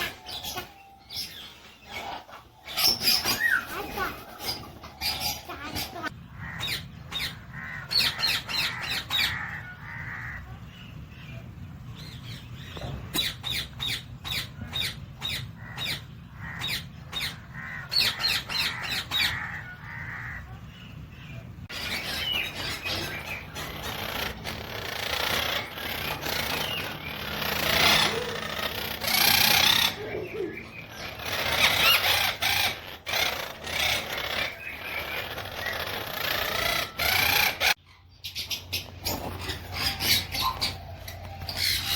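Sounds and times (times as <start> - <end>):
parrots chirping and squawking: 0.0 - 41.9.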